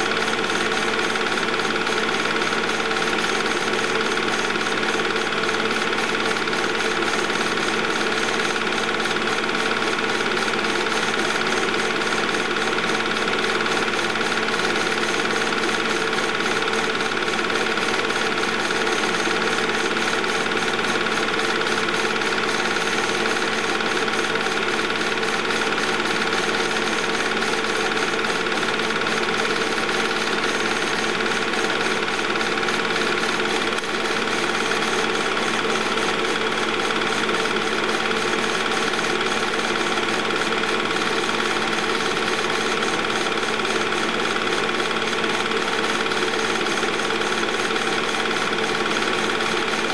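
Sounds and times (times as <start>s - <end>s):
film projector clattering: 0.0s - 49.9s.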